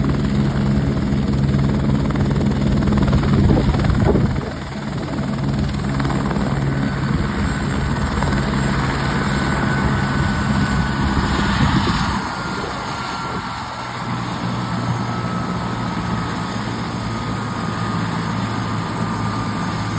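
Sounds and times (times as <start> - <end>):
helicopter rotor drone: 0.0 - 19.9
turbine whine: 0.0 - 19.9.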